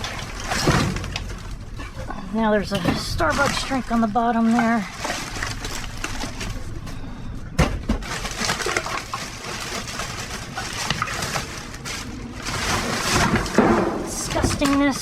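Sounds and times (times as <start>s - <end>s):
rustling of bags and paper: 2.6s - 15.0s.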